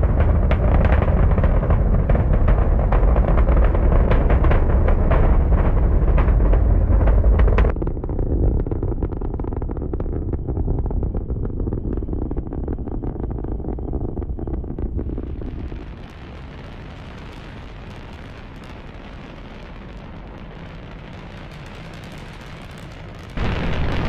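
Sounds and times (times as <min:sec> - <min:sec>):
rocket engine rumble: 0:00.0 - 0:24.0.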